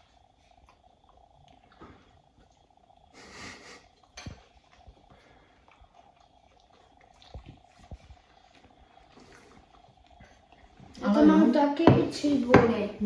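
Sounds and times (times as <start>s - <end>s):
faint steady hum: 0.0s - 13.0s
people chewing: 0.0s - 13.0s.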